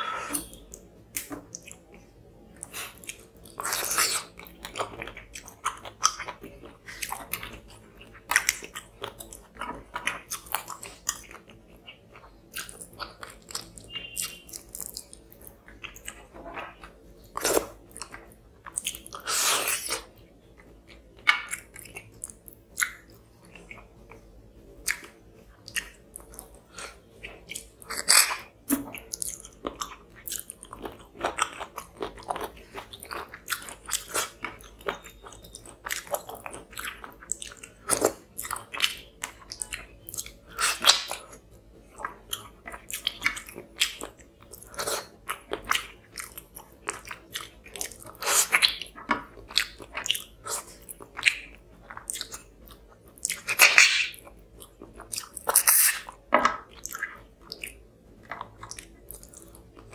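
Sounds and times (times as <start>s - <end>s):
person chewing and lip-smacking: 0.0s - 59.9s.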